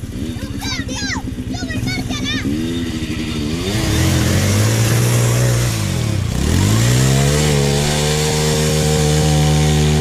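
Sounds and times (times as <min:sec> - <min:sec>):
off-road bike engine revving: 0:00.0 - 0:10.0.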